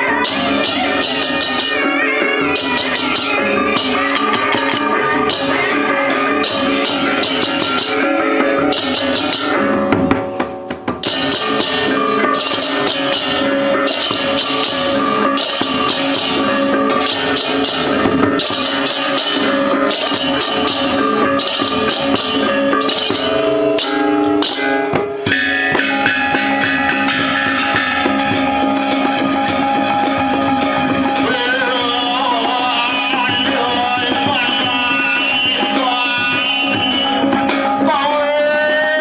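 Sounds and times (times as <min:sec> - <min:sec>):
wavering high melody: 0:00.0 - 0:10.4, 0:11.5 - 0:38.4.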